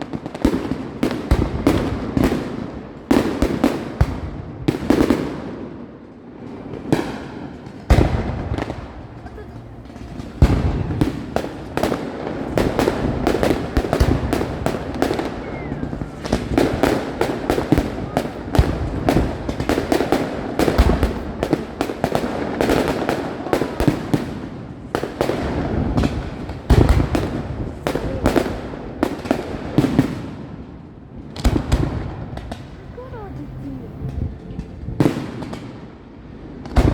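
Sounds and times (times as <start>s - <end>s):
heavy firework booms: 0.0s - 5.6s, 9.9s - 36.9s
firework bangs and crackling: 0.0s - 36.9s.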